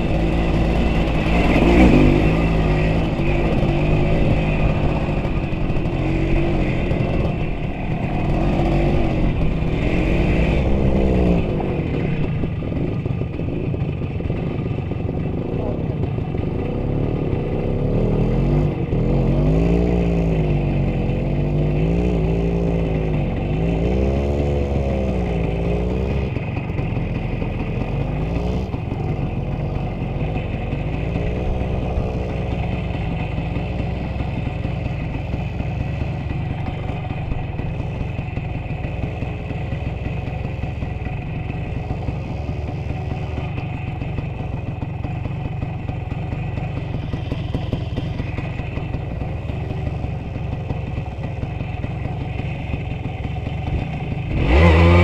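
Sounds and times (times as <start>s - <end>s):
vehicle engine revving: 0.0s - 13.0s, 16.6s - 55.0s.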